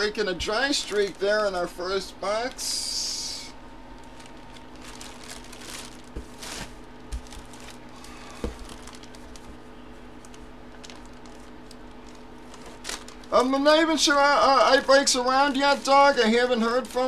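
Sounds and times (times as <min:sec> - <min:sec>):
plastic sleeve crinkling: 0:00.5 - 0:01.6, 0:03.9 - 0:17.0.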